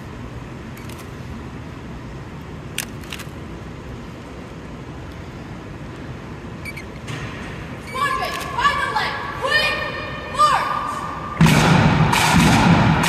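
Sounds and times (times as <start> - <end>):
low rumble of hall noise: 0.0 - 13.0.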